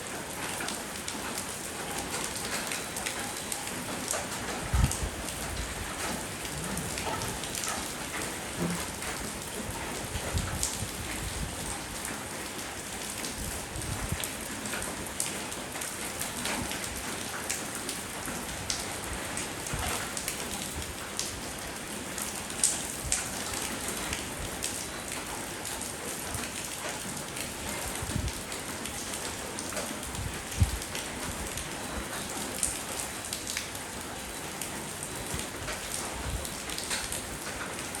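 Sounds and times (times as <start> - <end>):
steady rainfall: 0.0 - 38.0.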